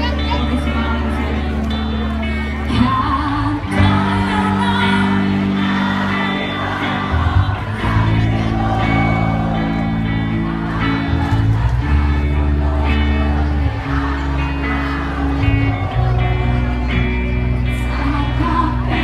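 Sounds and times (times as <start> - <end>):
person singing: 0.0 - 11.0, 12.0 - 19.0
live music through sound system: 0.0 - 19.0.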